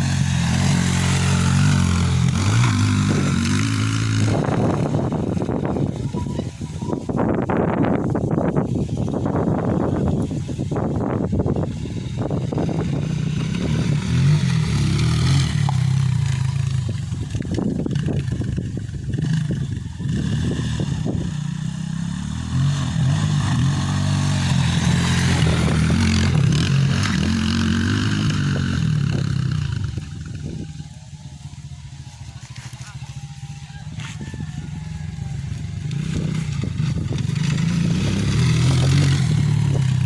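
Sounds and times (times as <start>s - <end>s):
dirt bike engine revving: 0.0s - 7.8s, 9.0s - 40.0s.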